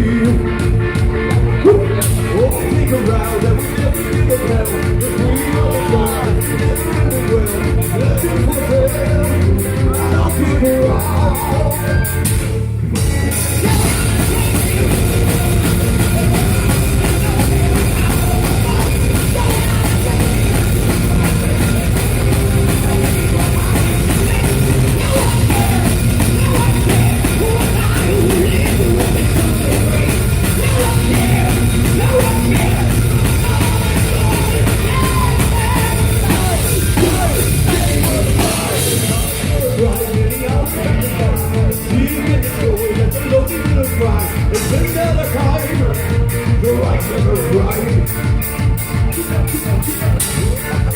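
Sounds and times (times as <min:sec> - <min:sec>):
heavy metal band playing: 0:00.0 - 0:50.9
person singing: 0:00.0 - 0:50.9.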